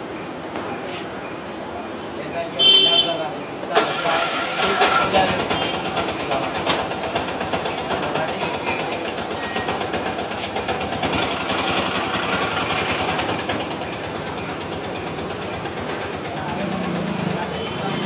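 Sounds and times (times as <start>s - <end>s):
vehicle engines running: 3.5s - 18.0s.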